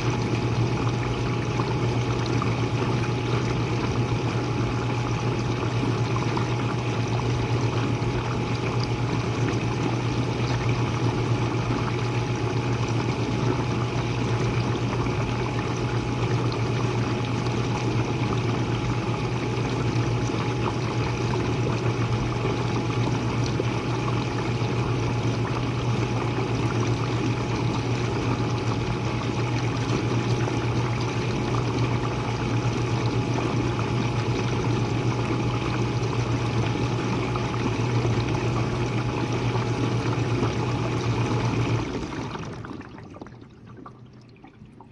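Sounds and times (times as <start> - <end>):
dishwasher motor hum: 0.0 - 44.9.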